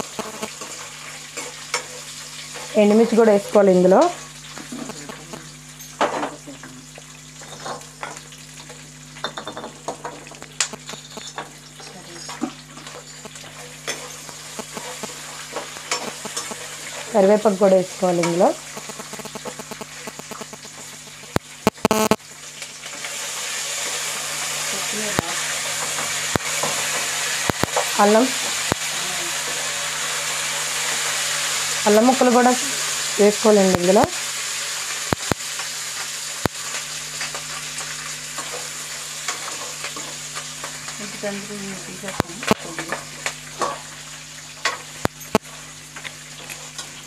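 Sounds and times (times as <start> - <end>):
oil sizzling in pan: 0.0 - 47.0.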